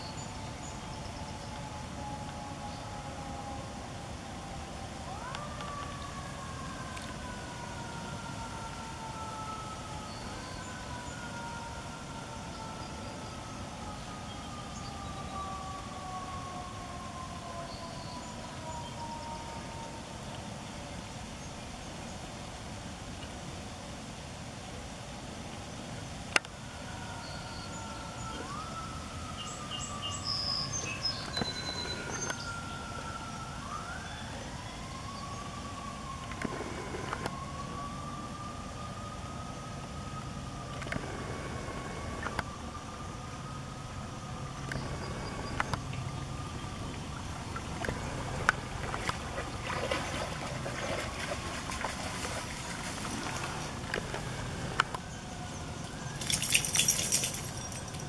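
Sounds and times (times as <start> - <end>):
distant siren wailing: 0.0 - 21.8, 26.3 - 58.0.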